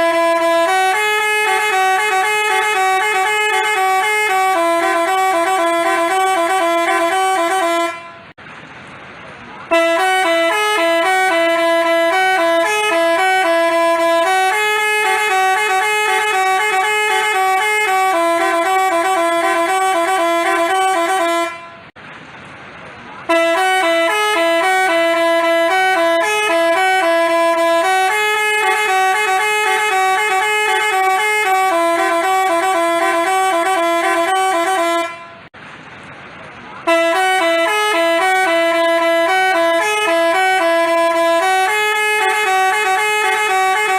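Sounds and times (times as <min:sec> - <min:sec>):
musical bus horn playing a tune: 0:00.0 - 0:08.4, 0:09.6 - 0:22.0, 0:23.2 - 0:35.6, 0:36.8 - 0:43.9.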